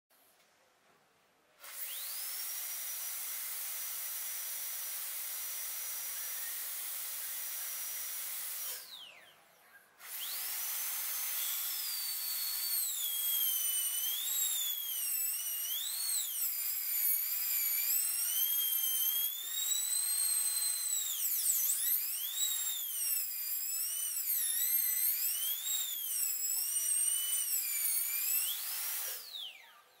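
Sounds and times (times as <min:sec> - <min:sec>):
dental drill high whine: 0:01.6 - 0:09.3, 0:10.0 - 0:30.0.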